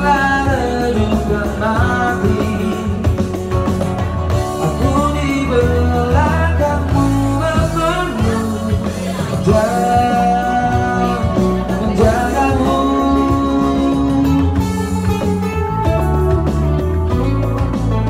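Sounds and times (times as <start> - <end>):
man singing into a microphone: 0.0 - 16.5
bass line: 0.0 - 18.0
guitar chords: 0.0 - 18.0.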